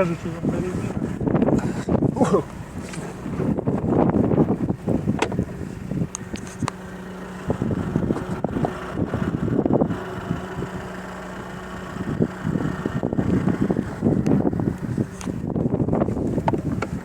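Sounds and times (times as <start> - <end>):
car engine idling: 0.0 - 17.0
wind buffeting microphone: 0.0 - 17.0.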